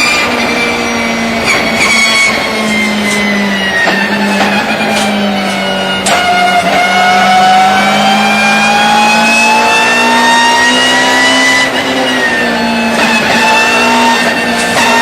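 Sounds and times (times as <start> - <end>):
high gear whine: 0.0 - 15.0
race car accelerating: 0.0 - 15.0.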